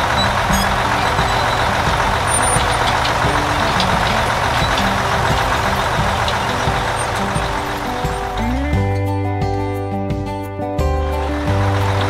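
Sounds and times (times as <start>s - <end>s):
combine harvester running: 0.0s - 9.0s, 11.1s - 12.0s.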